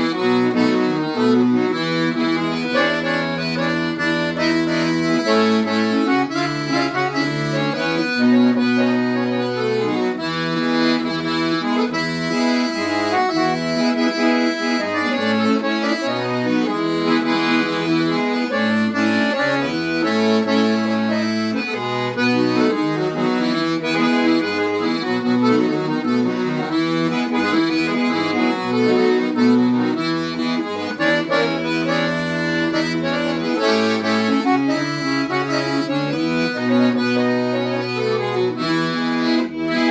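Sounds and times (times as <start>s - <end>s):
accordion dance music: 0.0s - 39.9s.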